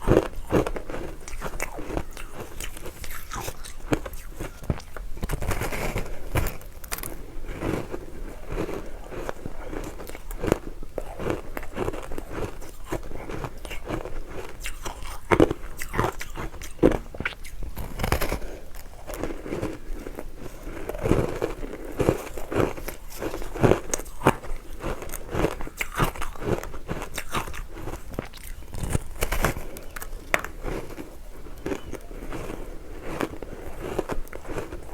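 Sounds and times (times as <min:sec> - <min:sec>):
crunching frozen ice: 0:00.0 - 0:34.9.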